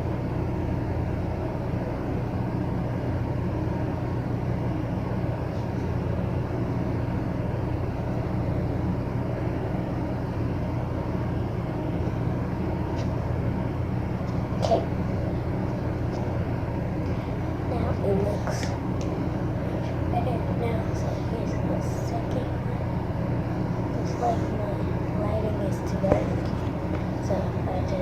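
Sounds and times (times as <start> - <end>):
low rumbling hum with hiss: 0.0 - 28.0.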